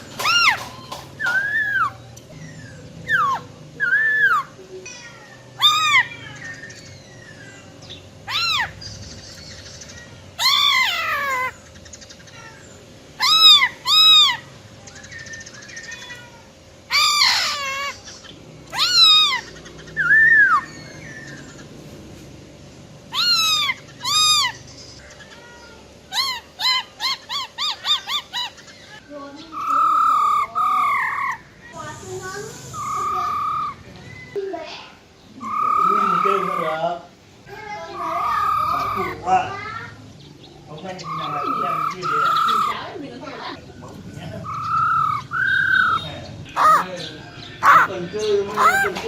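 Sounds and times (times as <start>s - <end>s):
laughingthrush calling: 0.0s - 21.8s, 23.1s - 34.3s, 35.1s - 49.0s.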